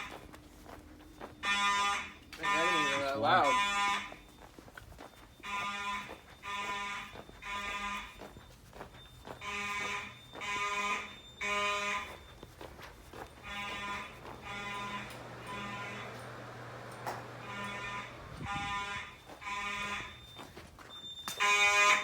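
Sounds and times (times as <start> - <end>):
fire alarm horns blasting: 0.0 - 22.0.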